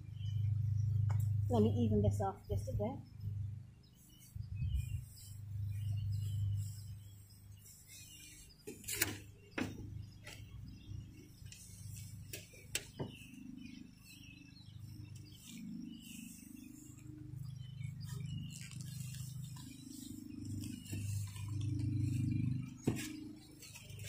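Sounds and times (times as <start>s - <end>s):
birds chirping: 0.0s - 24.0s
low steady hum: 0.0s - 24.0s.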